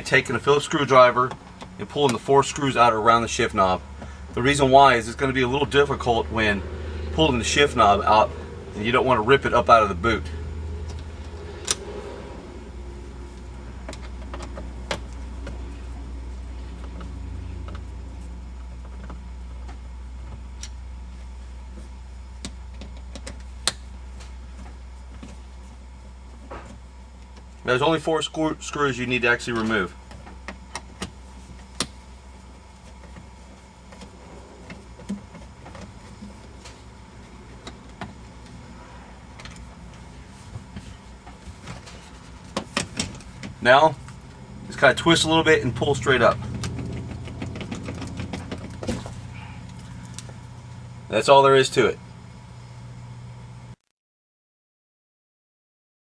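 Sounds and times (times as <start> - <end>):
steady low hum: 0.0 - 53.8.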